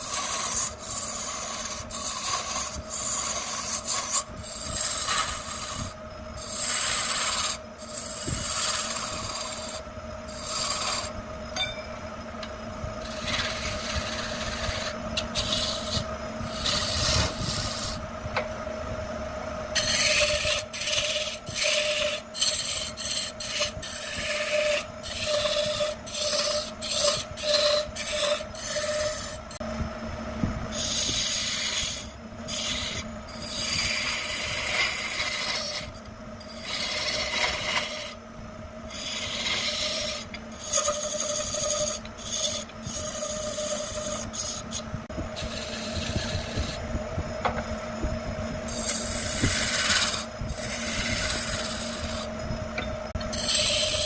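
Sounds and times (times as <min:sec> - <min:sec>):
turning tool cutting wood: 0:00.0 - 0:11.8, 0:13.0 - 0:18.5, 0:19.7 - 0:29.6, 0:30.7 - 0:38.2, 0:38.9 - 0:46.8, 0:48.6 - 0:54.0
lathe motor hum: 0:00.0 - 0:54.0.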